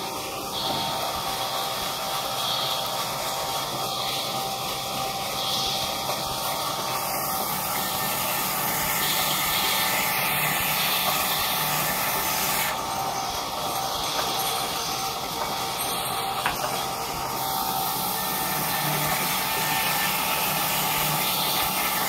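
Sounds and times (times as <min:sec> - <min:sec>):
band sawmill sawing log: 0:00.0 - 0:22.0.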